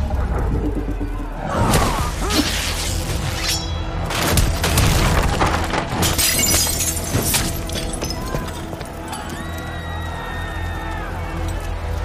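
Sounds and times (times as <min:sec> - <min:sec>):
dramatic background music: 0:00.0 - 0:12.0.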